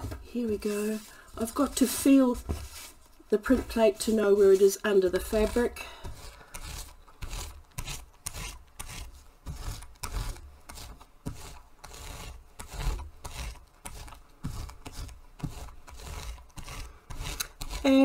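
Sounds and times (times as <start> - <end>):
paint roller rasping on fabric: 0.5 - 18.0.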